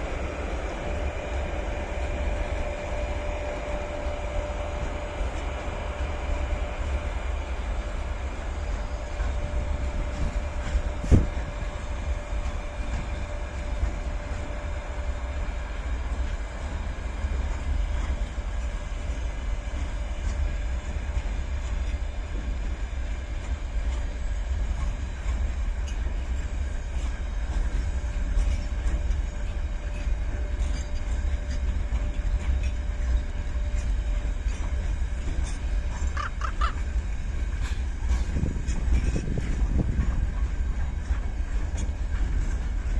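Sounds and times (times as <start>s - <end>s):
train rumbling on rails: 0.0s - 42.9s.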